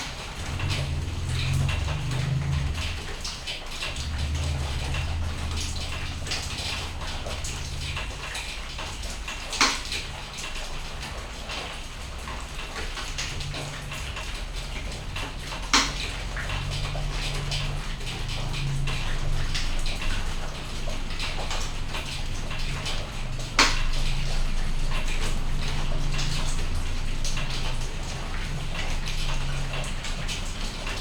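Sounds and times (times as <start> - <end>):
rain drops ticking: 0.0 - 31.0.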